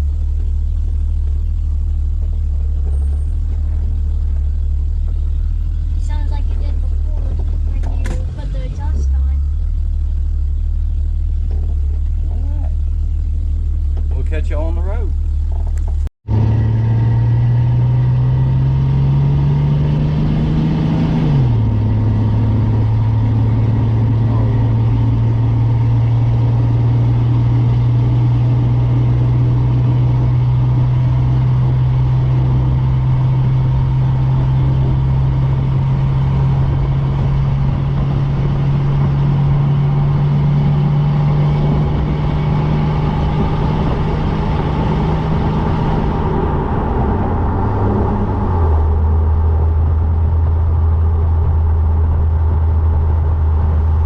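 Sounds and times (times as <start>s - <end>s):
car engine pulling: 0.0s - 54.0s.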